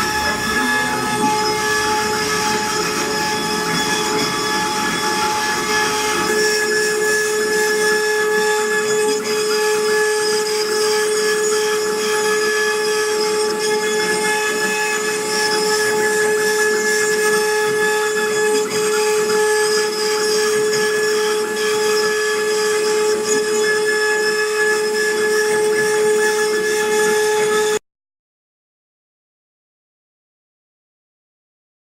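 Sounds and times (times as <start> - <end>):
router spindle whining: 0.0 - 27.8.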